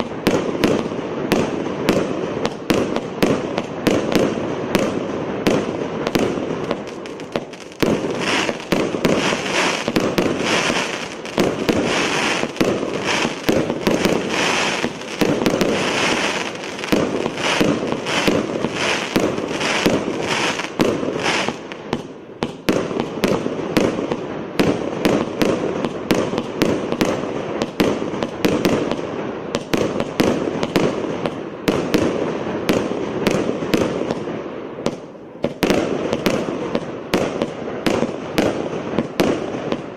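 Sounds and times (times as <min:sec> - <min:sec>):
firework crackle: 0:00.0 - 0:39.9.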